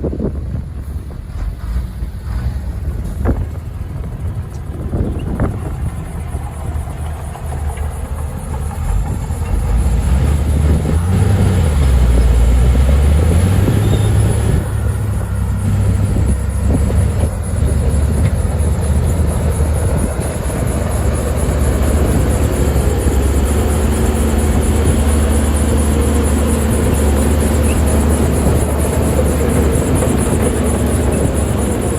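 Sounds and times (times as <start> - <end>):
heavy machinery diesel engine: 0.0 - 31.9.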